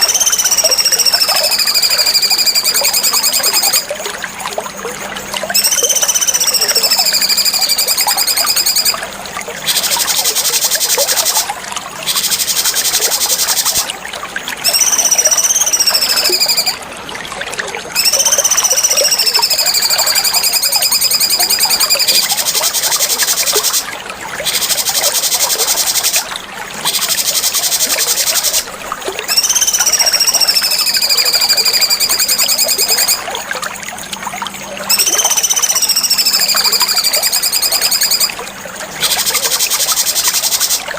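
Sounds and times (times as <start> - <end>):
bird singing whistles and trills: 0.0 - 4.8, 5.4 - 9.0, 9.6 - 13.9, 14.6 - 16.8, 17.9 - 33.3, 34.8 - 38.4, 39.0 - 40.9.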